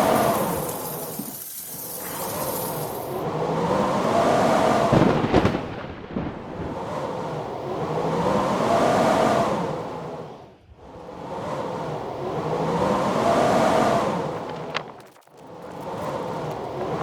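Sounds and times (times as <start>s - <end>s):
howling wind gusts: 0.0s - 17.0s.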